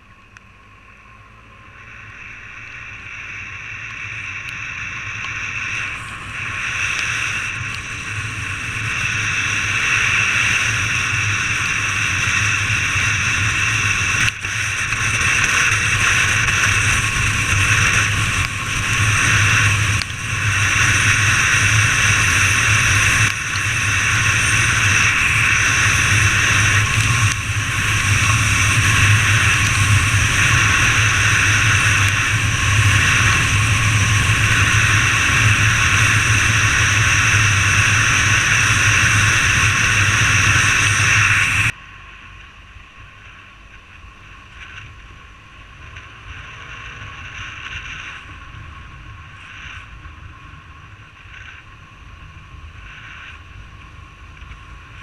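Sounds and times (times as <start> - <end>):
motorbike road noise: 0.0 - 55.0.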